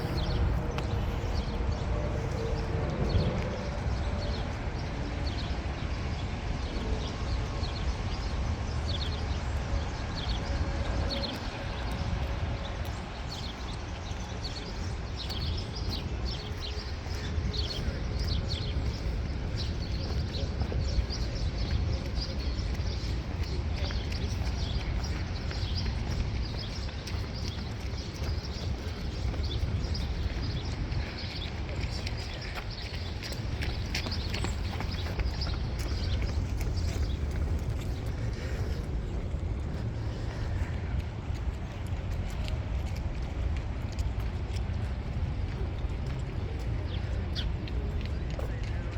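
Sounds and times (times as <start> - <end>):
birds chirping: 0.0 - 42.5
low outdoor rumble: 0.0 - 48.9.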